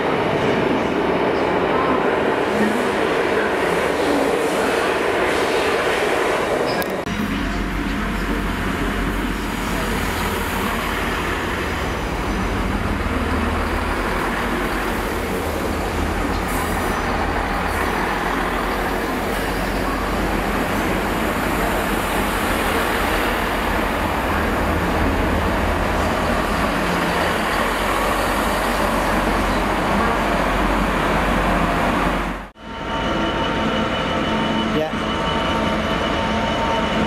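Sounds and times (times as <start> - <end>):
diesel train engine rumble: 0.0 - 37.0
train wheels on rails: 0.0 - 37.0.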